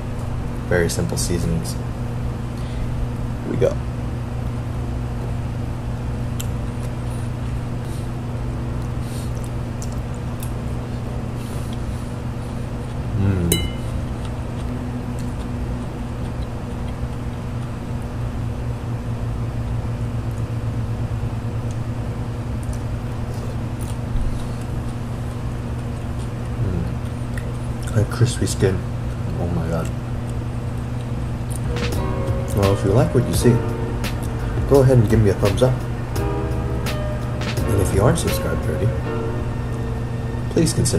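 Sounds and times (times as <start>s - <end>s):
electric fan humming: 0.0s - 40.9s.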